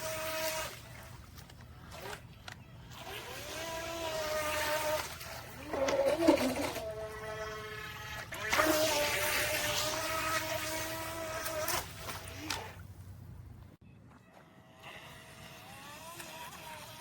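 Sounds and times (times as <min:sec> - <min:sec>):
small electric motor whining: 0:00.0 - 0:01.2, 0:01.8 - 0:12.8, 0:14.4 - 0:17.0.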